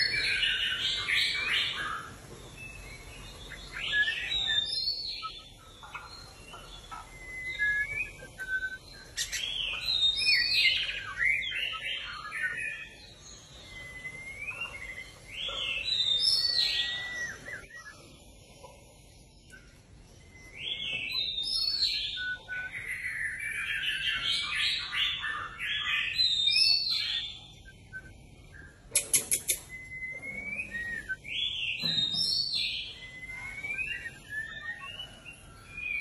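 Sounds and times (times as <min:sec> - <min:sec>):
bird singing whistled notes: 0:00.0 - 0:36.0.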